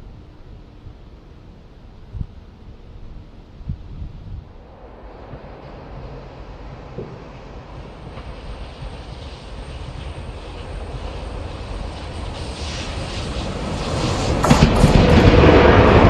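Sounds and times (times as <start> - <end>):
faint high whine: 0.0 - 16.0
train rumble: 0.0 - 16.0.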